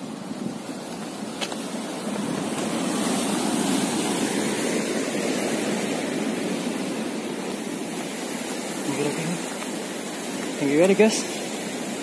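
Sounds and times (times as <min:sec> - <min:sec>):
sea surf breaking on rocks: 0:00.0 - 0:12.0.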